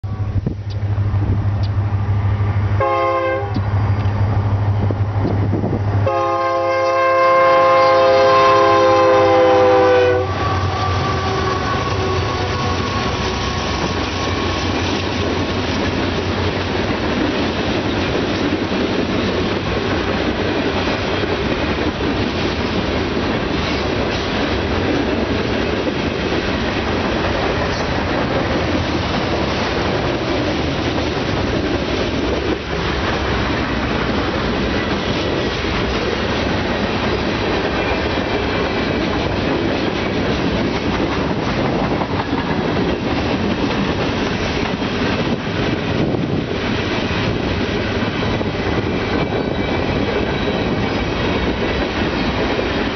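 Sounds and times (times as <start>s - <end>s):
freight train wheels rumbling on rails: 0.0s - 52.9s.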